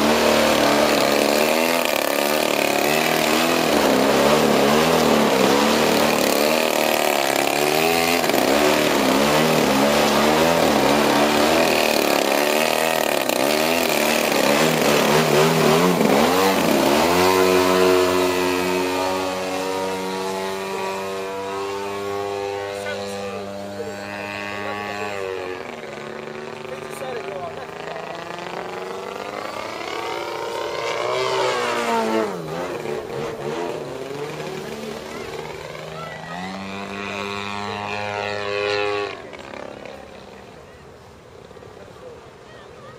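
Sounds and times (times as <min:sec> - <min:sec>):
model plane engine running: 0:00.0 - 0:41.8.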